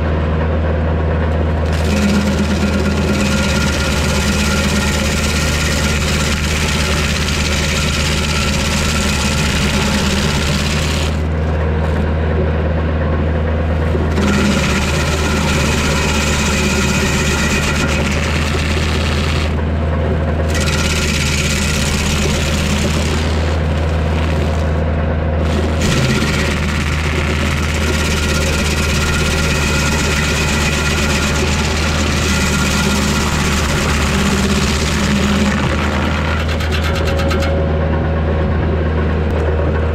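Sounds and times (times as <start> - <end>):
tractor diesel engine running: 0.0 - 39.9
stump grinder cutting wood: 1.4 - 12.1, 13.7 - 37.6.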